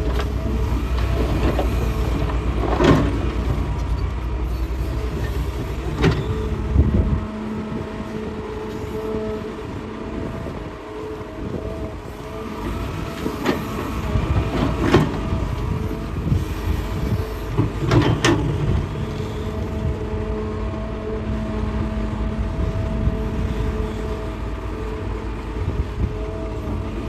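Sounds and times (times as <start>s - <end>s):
excavator engine and hydraulics whine: 0.0s - 27.0s.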